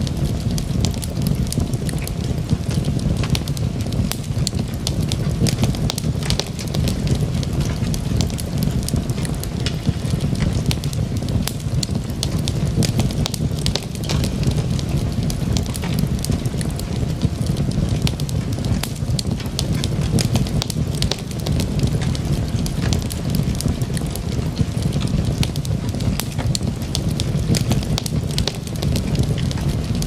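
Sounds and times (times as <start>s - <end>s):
log fire crackling: 0.0s - 30.0s.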